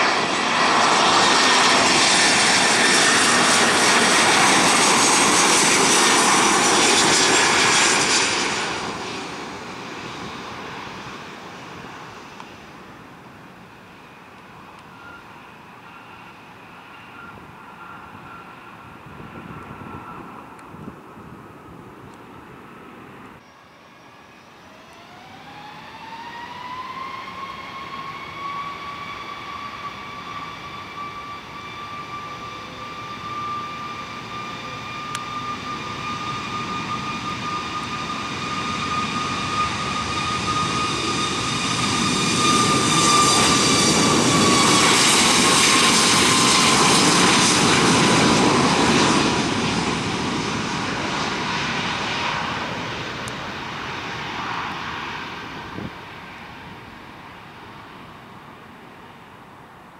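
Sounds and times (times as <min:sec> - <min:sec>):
jet roaring past: 0:00.0 - 0:13.1, 0:14.7 - 0:59.8
jet engines whining: 0:00.0 - 0:59.9.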